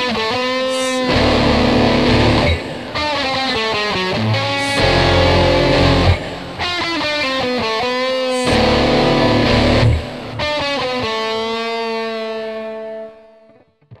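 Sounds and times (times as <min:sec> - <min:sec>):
distorted electric guitar music: 0:00.0 - 0:14.0.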